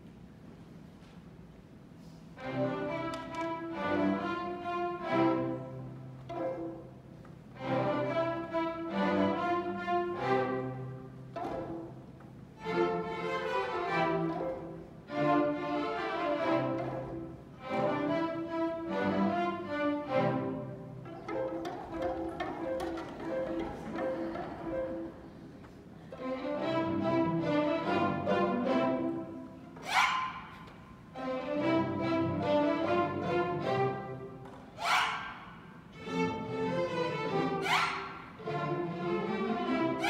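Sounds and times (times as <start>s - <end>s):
string orchestra playing: 2.4s - 29.8s, 30.9s - 34.5s, 35.8s - 40.0s.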